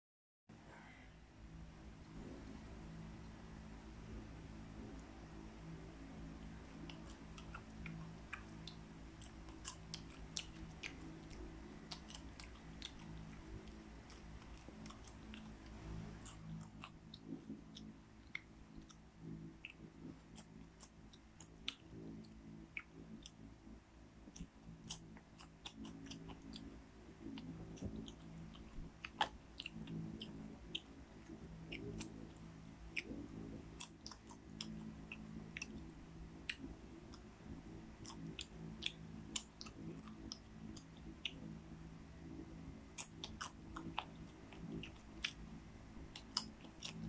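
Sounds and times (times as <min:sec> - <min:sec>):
popcorn being chewed: 0:04.5 - 0:47.0.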